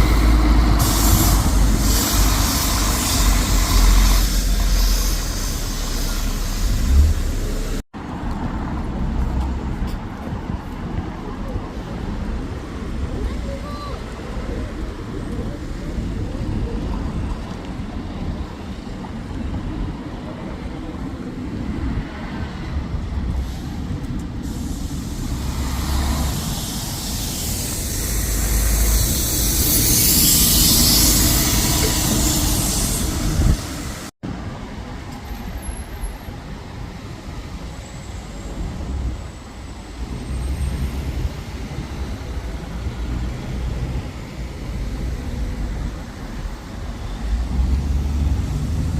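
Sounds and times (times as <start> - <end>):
traffic rumble: 0.0 - 48.9.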